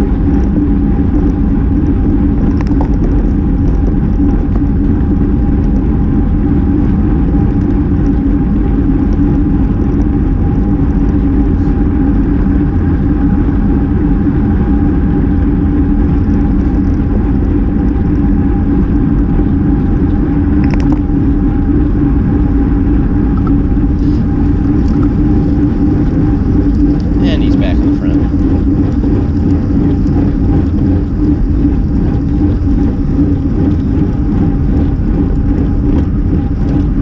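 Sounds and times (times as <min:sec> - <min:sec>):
low steady hum: 0:00.0 - 0:37.0
wind and road noise: 0:00.0 - 0:37.0.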